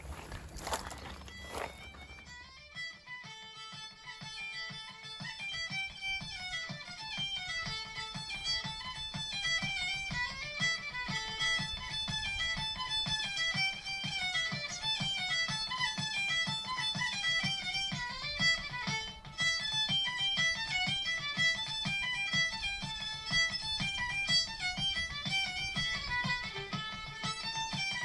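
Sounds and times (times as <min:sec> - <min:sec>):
fiddle tune: 0:00.0 - 0:28.0
plucked guitar: 0:00.0 - 0:28.0
steady beat: 0:00.0 - 0:28.0.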